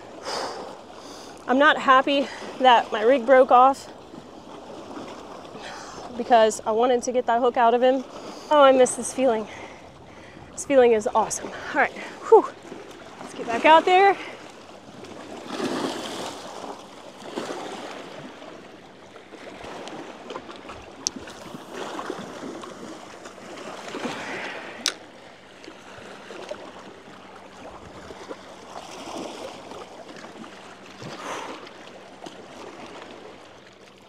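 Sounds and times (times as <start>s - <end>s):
small waves lapping: 0.0s - 34.0s.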